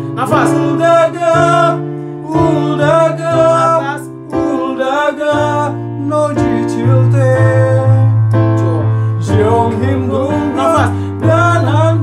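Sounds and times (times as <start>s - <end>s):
instrumental backing music: 0.0s - 12.0s
man singing a ballad: 0.0s - 12.0s.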